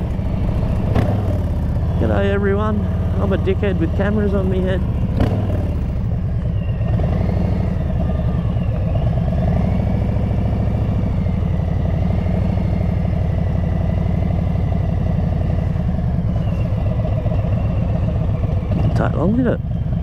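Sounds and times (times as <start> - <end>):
motorcycle engine at low rpm: 0.0 - 20.0.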